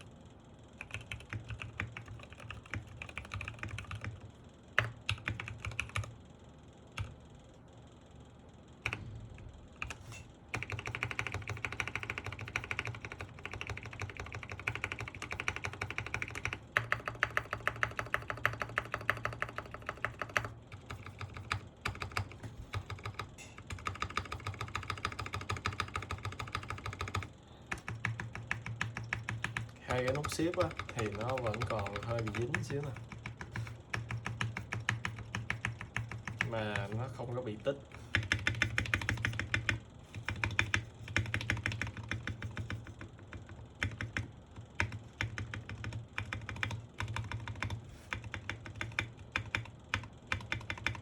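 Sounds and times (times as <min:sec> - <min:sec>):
mechanical keyboard typing: 0:00.8 - 0:06.2, 0:07.0 - 0:07.2, 0:08.8 - 0:09.1, 0:09.8 - 0:51.0.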